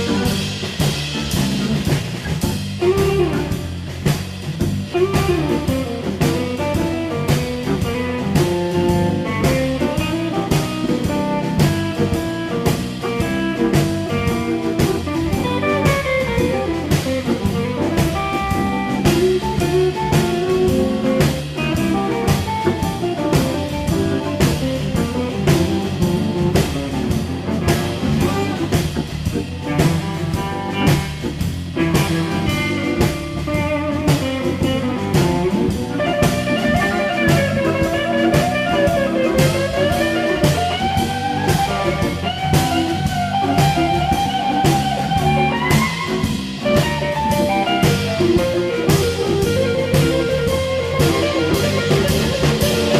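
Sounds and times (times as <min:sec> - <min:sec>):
drum kit steady beat: 0:00.0 - 0:52.9
electric guitar: 0:00.0 - 0:52.9
hammond organ: 0:00.0 - 0:52.9.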